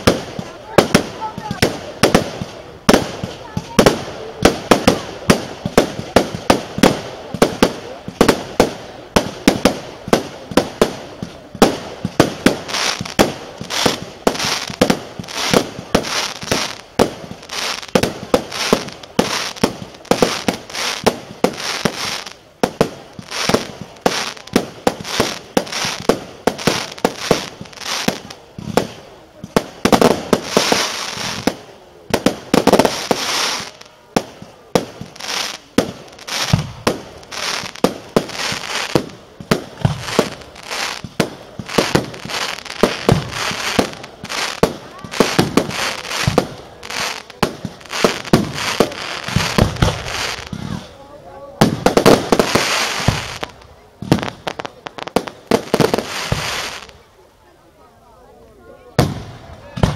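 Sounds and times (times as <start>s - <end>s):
fireworks bangs: 0.0s - 57.0s, 58.9s - 59.9s
fireworks crackling: 0.0s - 59.9s.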